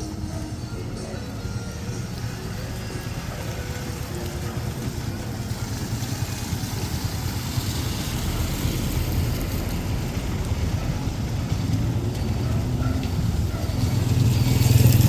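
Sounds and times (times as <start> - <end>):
street noise hiss: 0.0 - 15.0
vehicle engine rumbling: 0.0 - 15.0.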